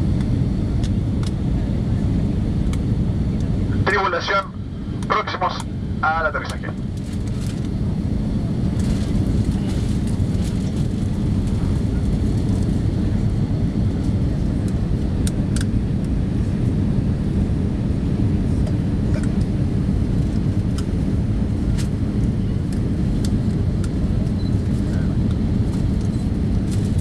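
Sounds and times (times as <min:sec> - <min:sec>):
airplane cabin engine roar: 0:00.0 - 0:27.0.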